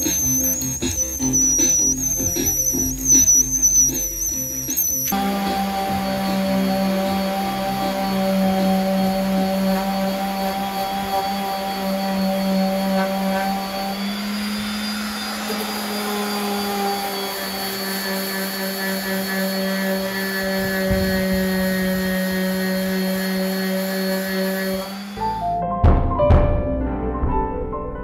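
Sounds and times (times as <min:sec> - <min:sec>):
orbital sander running: 0:00.0 - 0:25.4.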